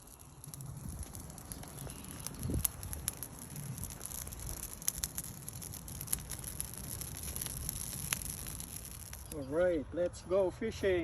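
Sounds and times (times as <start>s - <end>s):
burning paper crackling: 0.0s - 11.0s.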